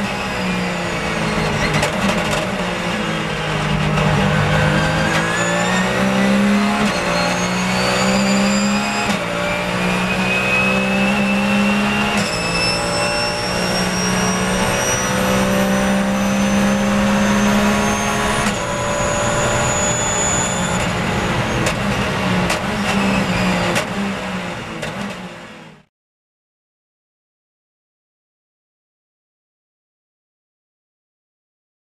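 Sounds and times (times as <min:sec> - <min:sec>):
racing engine at full throttle: 0:00.0 - 0:25.9.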